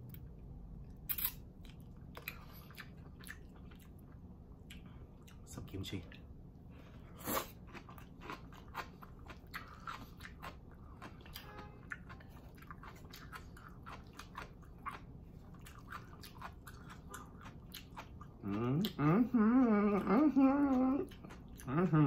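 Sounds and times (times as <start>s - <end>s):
person chewing crunchy food: 0.9s - 5.4s, 6.8s - 19.0s, 20.7s - 21.7s.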